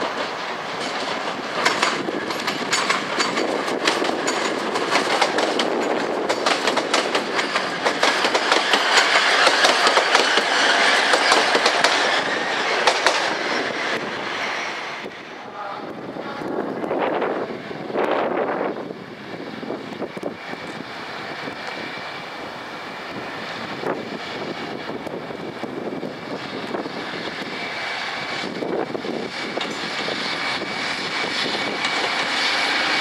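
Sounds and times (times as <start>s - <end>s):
train wheels clicking over rails: 0.0s - 15.1s, 19.6s - 33.0s.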